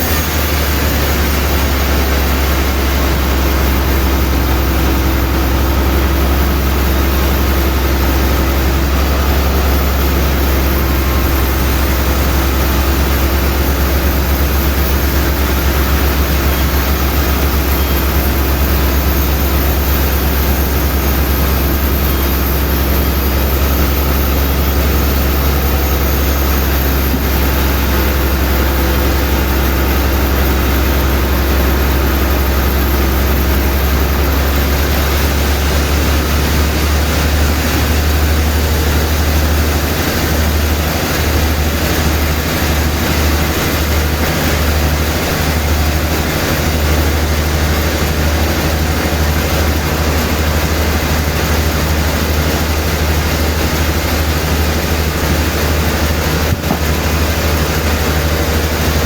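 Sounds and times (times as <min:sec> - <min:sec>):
broad noisy rush: 0:00.0 - 0:59.0
sawmill machinery hum: 0:00.0 - 0:59.0.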